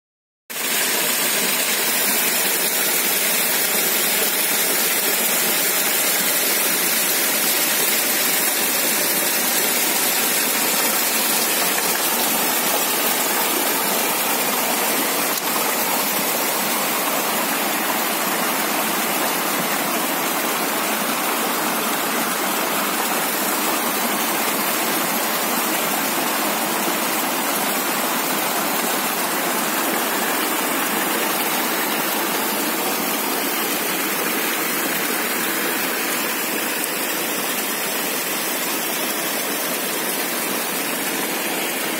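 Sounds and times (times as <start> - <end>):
water rushing over rocks: 0.5 - 41.9.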